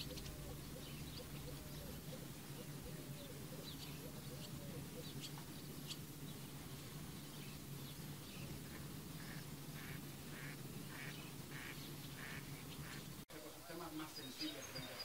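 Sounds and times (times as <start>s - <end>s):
steady low hum: 0.0s - 13.6s
swallows chirping: 0.0s - 15.0s.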